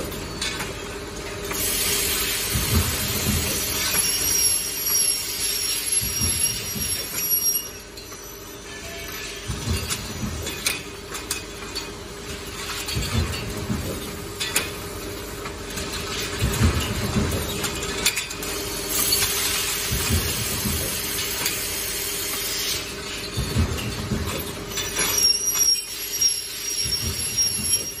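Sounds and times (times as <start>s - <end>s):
factory machinery humming: 0.0s - 28.0s.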